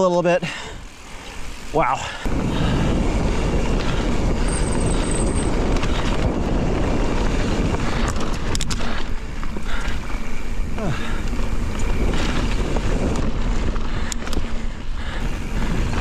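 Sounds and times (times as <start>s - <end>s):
bike tyres rolling on gravel: 0.0s - 16.0s
wind rushing over microphone: 0.7s - 16.0s.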